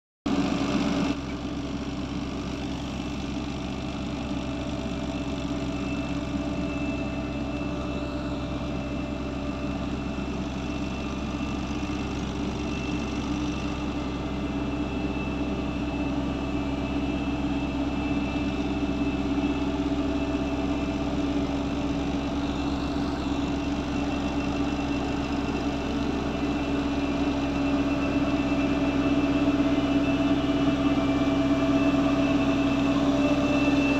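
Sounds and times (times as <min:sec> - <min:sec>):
soil compactor humming: 0:00.3 - 0:33.9.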